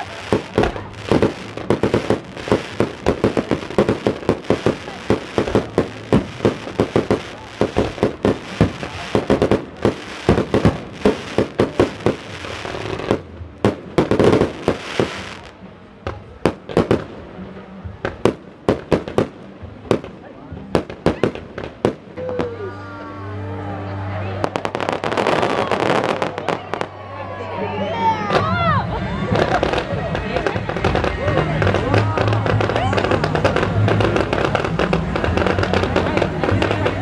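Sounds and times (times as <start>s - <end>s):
fireworks bangs and crackles: 0.0s - 22.7s, 24.3s - 27.1s, 28.2s - 37.0s.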